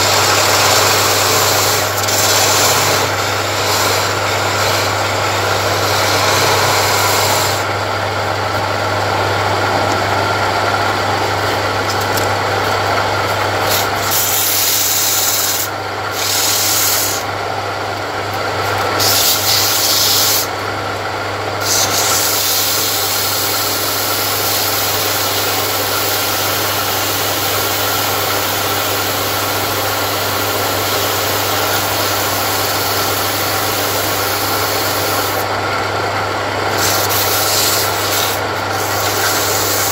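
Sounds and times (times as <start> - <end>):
wood rasping and sanding: 0.0 - 7.7, 11.2 - 17.3, 18.8 - 20.5, 21.6 - 35.5, 36.7 - 39.9
lathe motor hum: 0.0 - 39.9.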